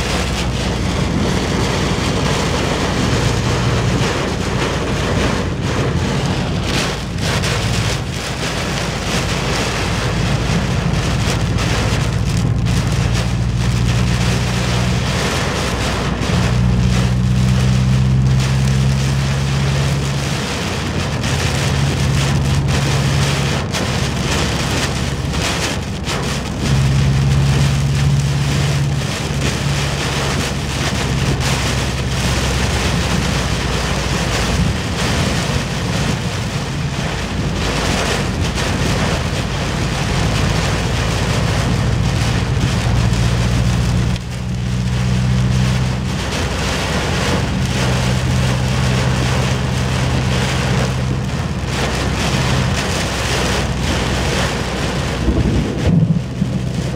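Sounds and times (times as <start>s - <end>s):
heavy rain on car roof: 0.0s - 56.9s
low car hum: 0.0s - 56.9s.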